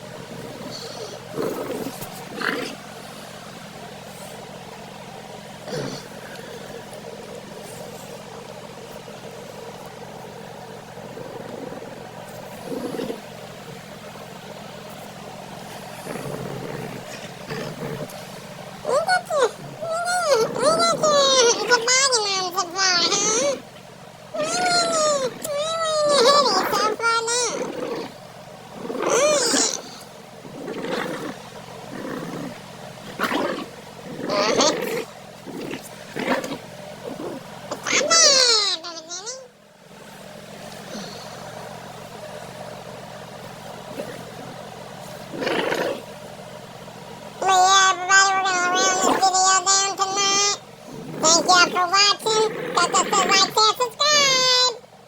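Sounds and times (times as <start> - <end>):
dog growling and grumbling: 0.0 - 46.3, 47.4 - 54.8
car engine hum: 0.0 - 55.0.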